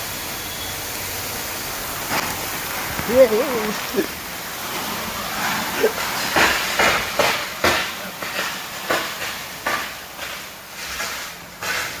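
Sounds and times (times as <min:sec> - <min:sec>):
high-pressure water spraying: 0:00.0 - 0:12.0.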